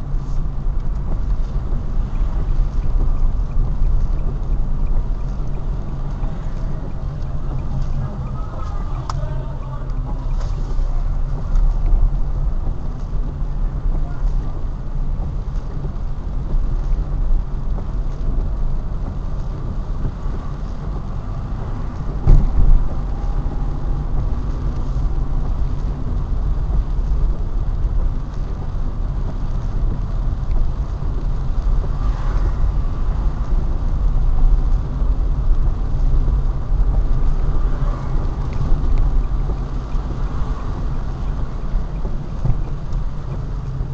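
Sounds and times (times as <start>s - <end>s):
car driving on wet road: 0.0s - 43.9s.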